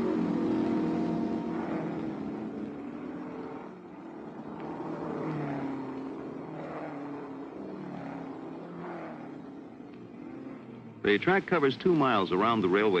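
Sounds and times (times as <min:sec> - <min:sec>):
racing car engines revving: 0:00.0 - 0:13.0.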